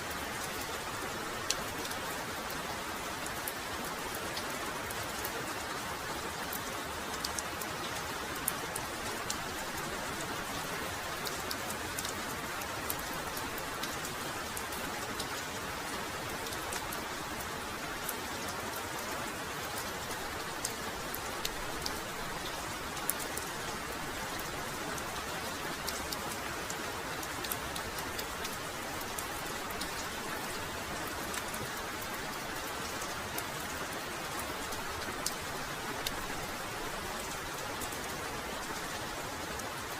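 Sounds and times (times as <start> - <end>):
heavy rain falling: 0.0 - 39.9
raindrops tapping close by: 0.1 - 39.9.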